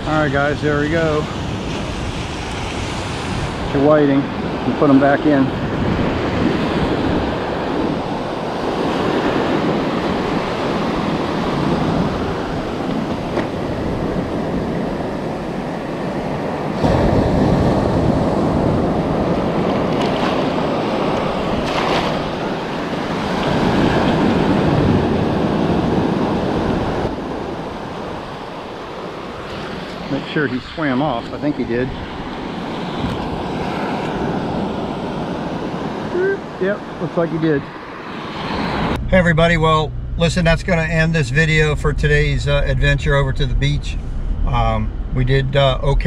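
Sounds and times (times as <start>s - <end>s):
surf washing over sand: 0.0s - 39.0s
wind buffeting microphone: 0.0s - 46.0s.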